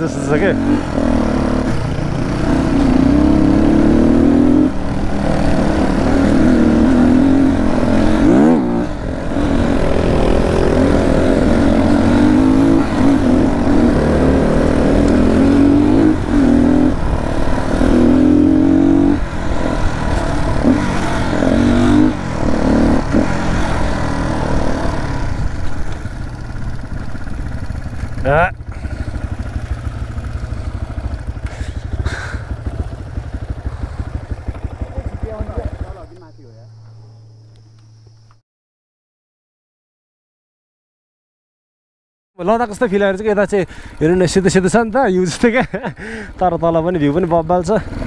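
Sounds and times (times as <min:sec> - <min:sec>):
dirt bike engine revving: 0:00.0 - 0:37.0, 0:43.2 - 0:48.0.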